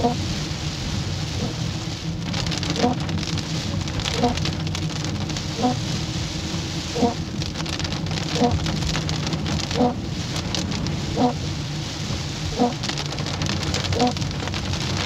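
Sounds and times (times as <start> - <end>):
heavy rain on car roof: 0.0 - 15.0
steady low hum: 0.0 - 15.0
windshield wipers sweeping: 0.0 - 15.0.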